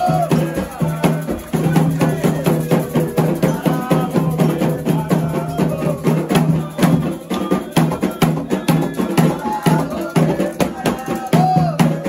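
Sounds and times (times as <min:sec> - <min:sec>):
hand drums playing fast rhythm: 0:00.0 - 0:12.0
sharp high struck percussion: 0:00.0 - 0:12.0.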